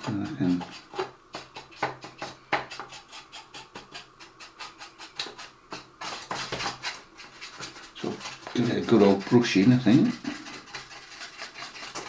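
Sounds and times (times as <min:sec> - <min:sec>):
brush scrubbing plastic model: 0:00.0 - 0:12.0.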